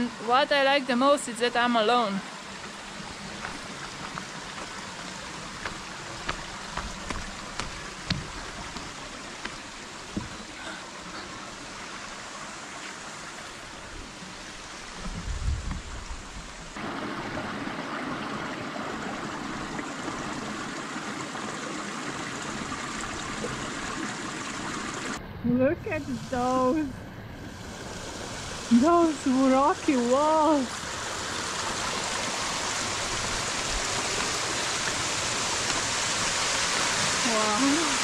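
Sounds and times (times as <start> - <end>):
river water rushing over rocks: 0.0 - 15.0, 16.7 - 25.2, 27.8 - 38.0.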